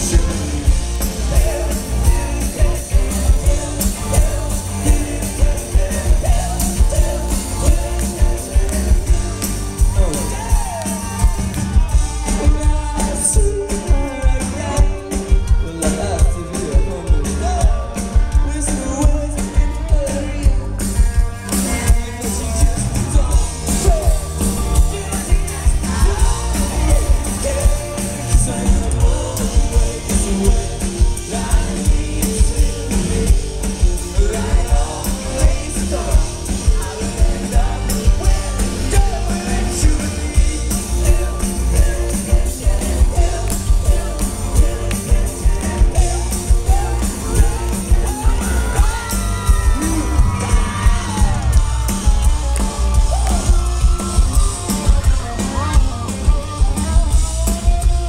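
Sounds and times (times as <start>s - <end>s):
drums: 0.0s - 58.0s
electric guitars: 0.0s - 58.0s
heavy bass: 0.0s - 58.0s
singer vocals: 0.0s - 58.0s.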